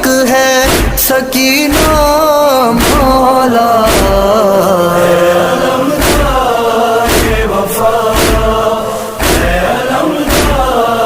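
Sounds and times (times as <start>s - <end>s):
heavy rhythmic thumps: 0.0s - 11.0s
person singing a lament: 0.0s - 11.0s.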